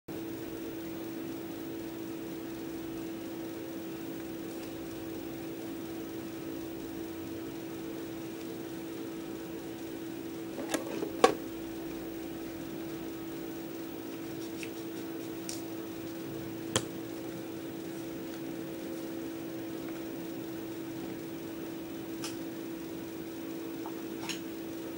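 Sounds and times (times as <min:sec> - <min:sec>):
electric fan humming: 0:00.1 - 0:24.9.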